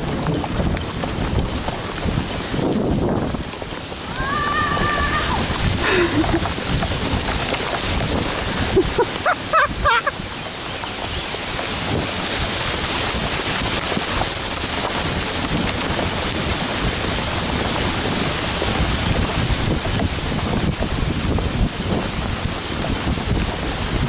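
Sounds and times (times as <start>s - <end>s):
rain pattering on leaves: 0.0s - 24.0s.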